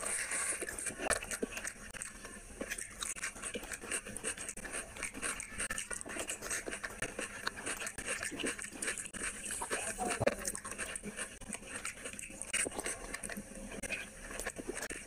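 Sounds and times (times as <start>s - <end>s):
fingers squishing rice: 0.0s - 15.0s
wet chewing and lip-smacking: 0.0s - 15.0s.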